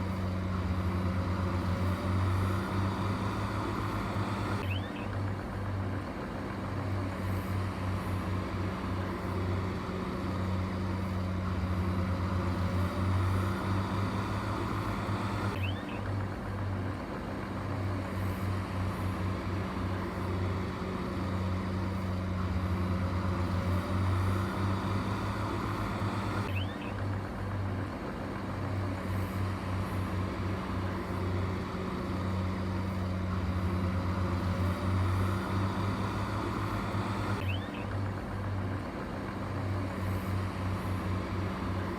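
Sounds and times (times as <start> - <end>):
diesel engine droning: 0.0 - 41.9.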